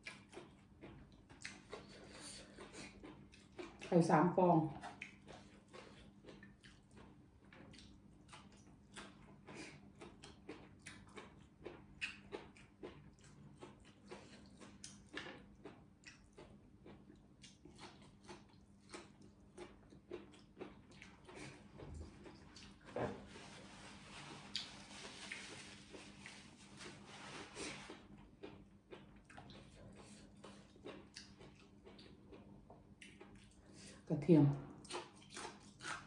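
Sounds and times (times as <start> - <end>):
person chewing leafy greens: 0.0 - 34.1, 34.7 - 36.0.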